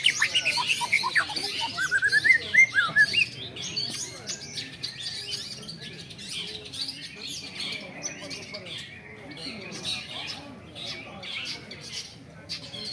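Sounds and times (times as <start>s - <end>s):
birds chirping and trilling: 0.0s - 12.9s.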